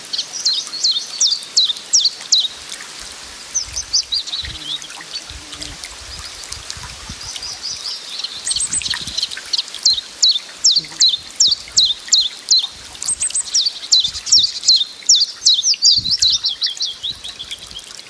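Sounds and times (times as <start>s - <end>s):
small birds chirping: 0.0s - 2.6s, 3.5s - 17.9s.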